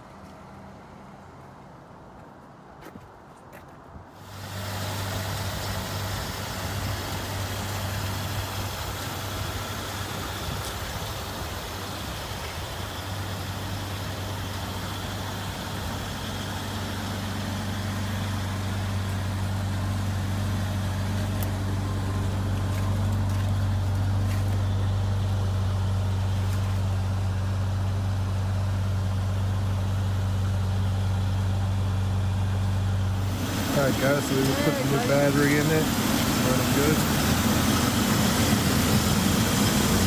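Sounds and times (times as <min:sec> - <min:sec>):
car engine idling: 0:04.2 - 0:40.0.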